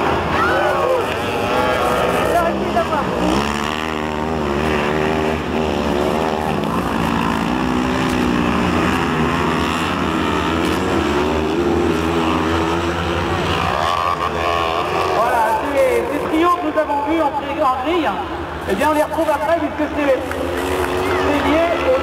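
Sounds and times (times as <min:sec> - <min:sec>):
buggy engines racing: 0:00.0 - 0:22.0.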